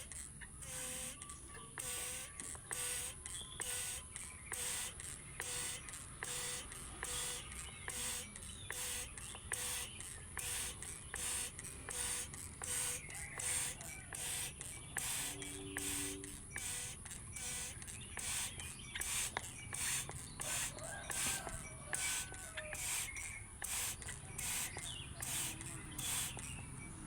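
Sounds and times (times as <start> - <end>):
water spraying in spurts: 0.0 - 27.0.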